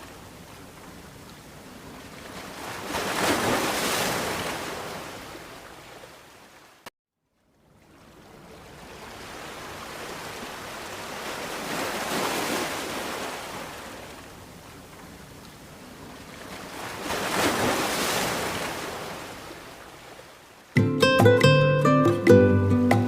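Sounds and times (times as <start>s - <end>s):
ocean waves washing onto shore: 0.0s - 6.9s, 7.7s - 20.8s.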